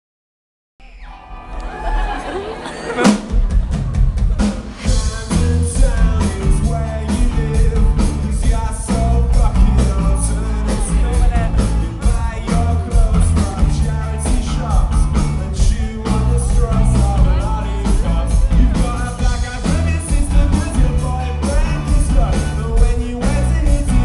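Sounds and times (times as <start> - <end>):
rock band playing live: 1.1 - 24.0
heavy bass line: 1.9 - 24.0
drum kit steady beat: 2.2 - 24.0.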